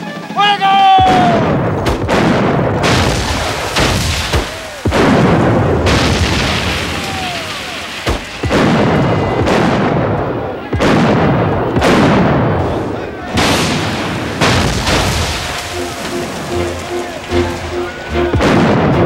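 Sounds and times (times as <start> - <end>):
field cannons firing: 1.0 - 19.0
long rumble after booms: 1.1 - 17.5, 18.3 - 19.0.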